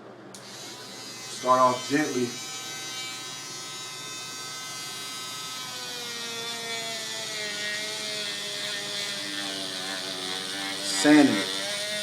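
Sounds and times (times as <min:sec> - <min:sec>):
electric sander whining: 0:00.4 - 0:12.0.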